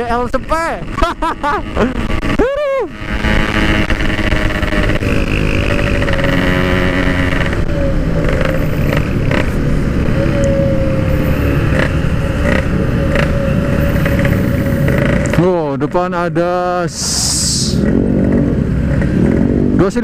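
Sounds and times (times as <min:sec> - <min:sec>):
two-stroke motorcycle engine running: 0:00.0 - 0:16.6.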